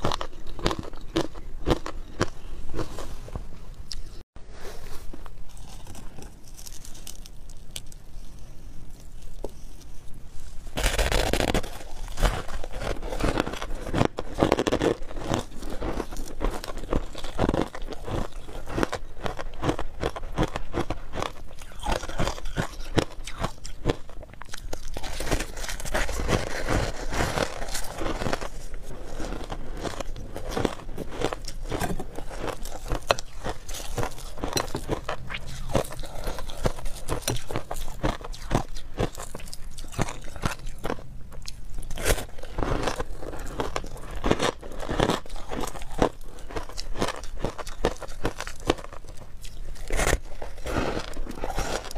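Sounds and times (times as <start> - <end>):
chewing crunchy shaved ice: 0.0 - 3.2, 5.2 - 51.9.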